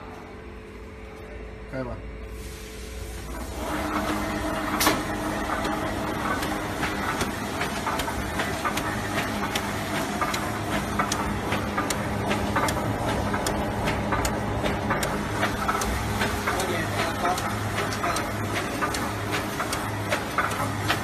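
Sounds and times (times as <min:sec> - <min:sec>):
machine motor hum: 0:00.0 - 0:21.0
rapid mechanical clacking: 0:03.6 - 0:21.0.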